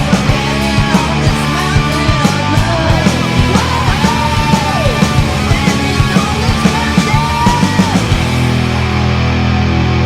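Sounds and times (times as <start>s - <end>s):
heavy rock chord ringing: 0.0s - 10.0s.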